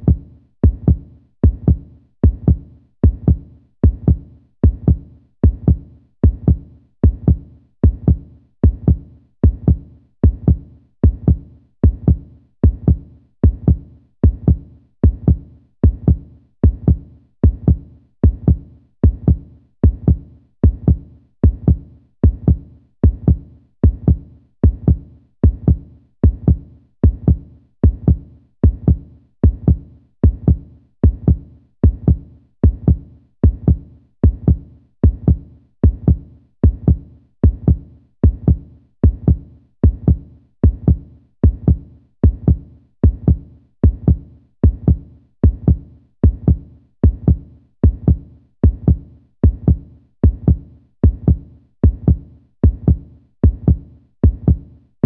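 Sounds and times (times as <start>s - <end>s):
heartbeat double thumps: 0.0s - 54.7s.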